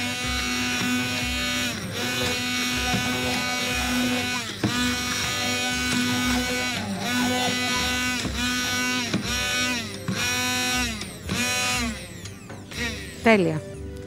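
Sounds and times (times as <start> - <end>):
stick blender whirring: 0.0 - 14.0.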